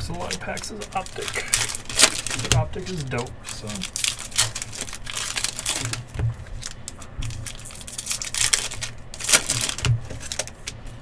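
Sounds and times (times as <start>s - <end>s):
plastic packaging crinkling and tearing: 0.0s - 11.0s.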